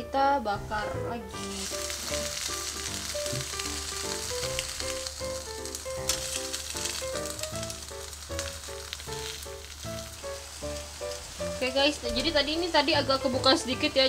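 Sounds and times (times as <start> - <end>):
quick melody background music: 0.0 - 14.0
fish sizzling in a hot pan: 1.3 - 14.0.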